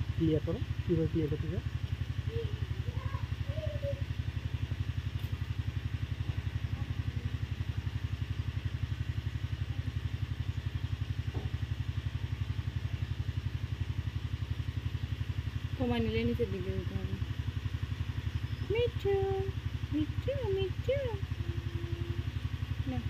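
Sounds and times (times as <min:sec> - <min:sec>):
small engine idling: 0:00.0 - 0:23.0.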